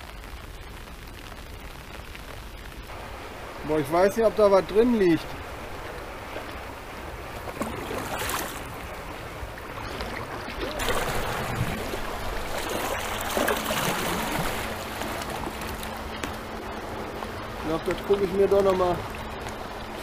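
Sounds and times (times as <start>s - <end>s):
water rushing over weir: 2.9s - 20.0s.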